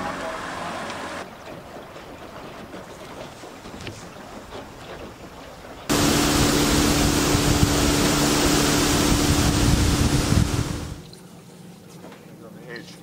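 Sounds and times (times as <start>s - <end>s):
outboard engine hum: 0.0s - 11.2s
water rushing: 0.0s - 11.2s
wind: 0.0s - 13.0s.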